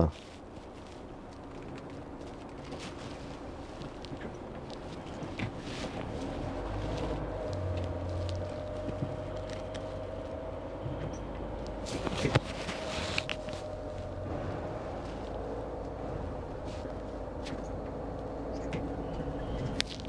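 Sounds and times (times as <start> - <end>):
engine and drivetrain hum: 0.0 - 20.0.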